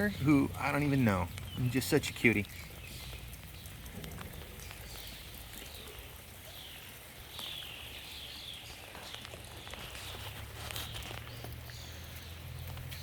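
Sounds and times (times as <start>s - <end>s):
light rain: 0.0s - 13.0s
raindrop ticks: 0.0s - 13.0s
songbird singing: 0.0s - 13.0s.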